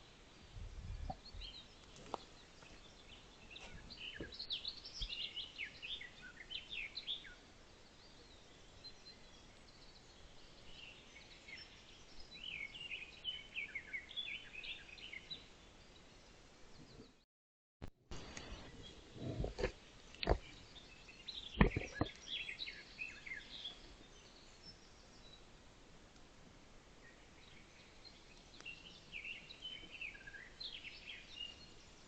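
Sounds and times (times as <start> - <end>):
faint outdoor hiss: 0.0 - 17.2, 18.1 - 32.0
songbird chirping: 0.0 - 17.2, 18.1 - 25.7, 26.9 - 32.0.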